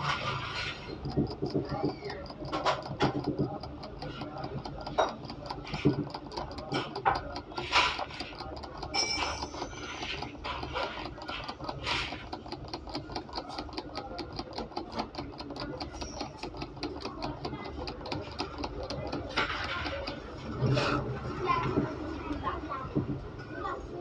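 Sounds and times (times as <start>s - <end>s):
rapid mechanical ticking: 0.0s - 24.0s.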